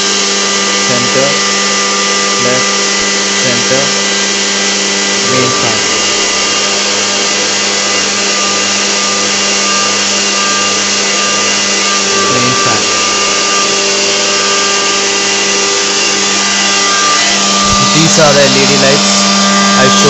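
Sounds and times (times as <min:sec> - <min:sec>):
electric fan motor whine: 0:00.0 - 0:20.0.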